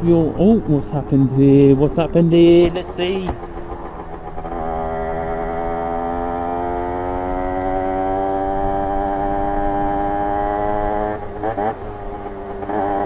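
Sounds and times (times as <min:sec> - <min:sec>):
two-stroke motorbike engine: 0:00.0 - 0:13.0.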